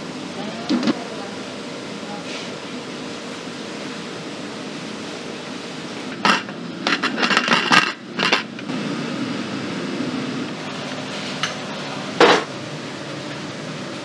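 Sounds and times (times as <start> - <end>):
steady kitchen hum: 0.0 - 14.0.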